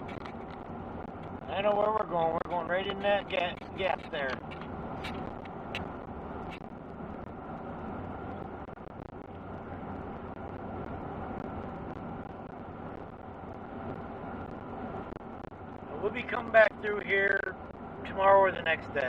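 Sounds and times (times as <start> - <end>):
truck driving: 0.0 - 19.0.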